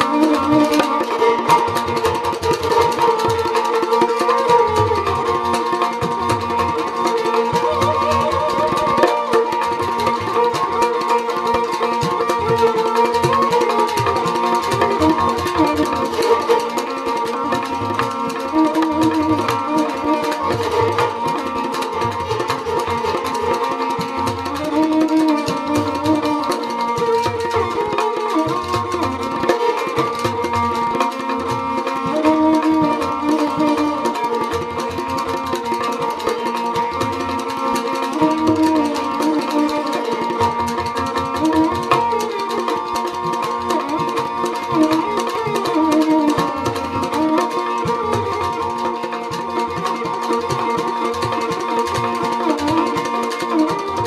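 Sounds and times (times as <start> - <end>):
bowed string melody: 0.0 - 54.0
hand drum beat: 0.0 - 54.0.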